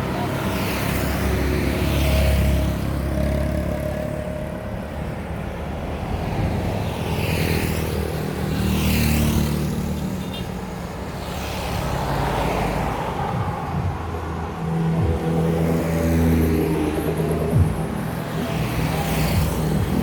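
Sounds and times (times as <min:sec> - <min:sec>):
low rumble of traffic: 0:00.0 - 0:20.0
vehicles passing close by: 0:00.0 - 0:20.0.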